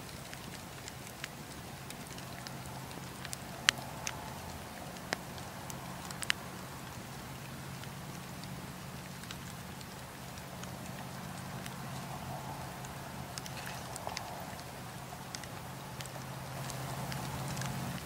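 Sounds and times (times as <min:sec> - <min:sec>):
campfire flames burning: 0:00.0 - 0:18.0
fire crackles and pops: 0:00.0 - 0:18.0.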